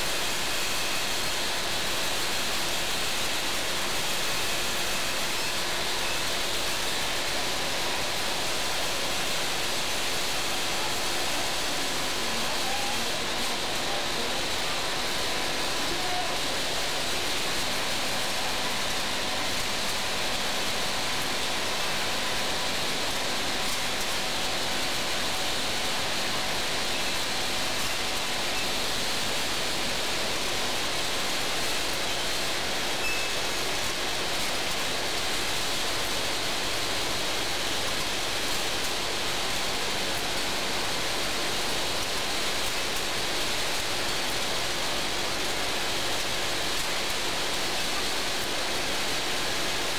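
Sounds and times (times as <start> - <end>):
steady hiss: 0.0 - 49.9.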